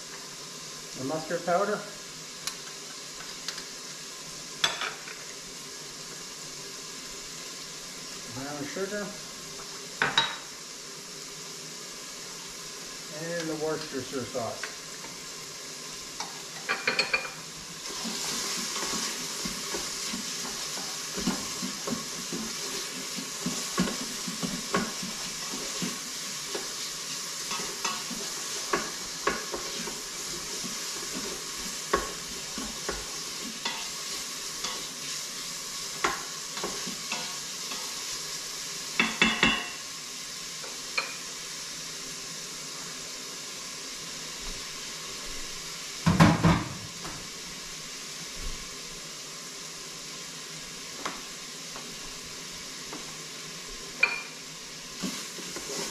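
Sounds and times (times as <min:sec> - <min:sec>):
bacon sizzling: 0:00.0 - 0:55.9.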